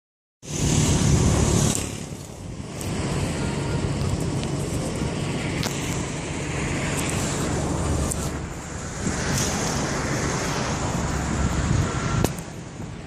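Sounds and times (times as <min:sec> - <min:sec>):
distant turboprop engines rumbling: 0:00.4 - 0:13.0
wind noise on microphone: 0:00.4 - 0:13.0.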